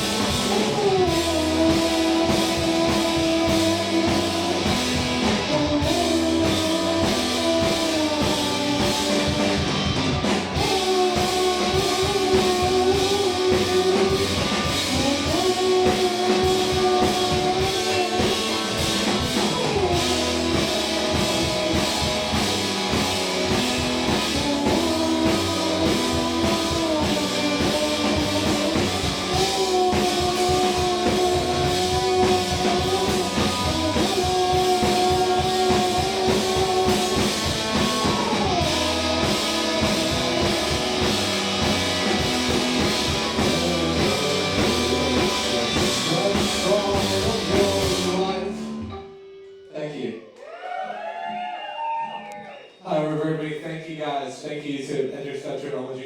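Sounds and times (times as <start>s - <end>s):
live rock band playing: 0.0s - 49.8s.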